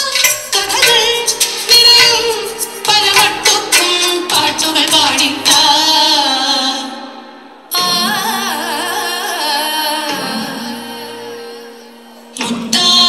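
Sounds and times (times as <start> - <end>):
ornamented singing over held notes: 0.0 - 13.0.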